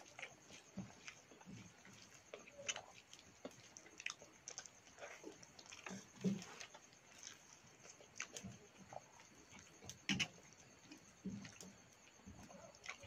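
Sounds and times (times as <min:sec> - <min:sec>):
fingers mixing rice on steel plate: 0:00.0 - 0:11.7
chewing and lip-smacking: 0:00.0 - 0:13.0.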